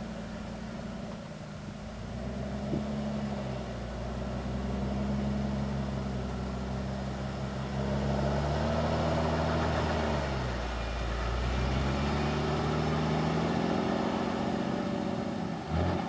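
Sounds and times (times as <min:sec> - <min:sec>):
engine working under load: 0:00.0 - 0:16.0.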